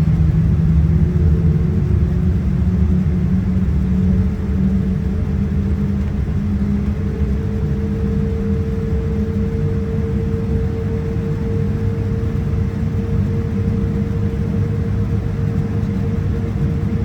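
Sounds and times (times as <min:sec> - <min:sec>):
jet engine cabin rumble: 0:00.0 - 0:17.0.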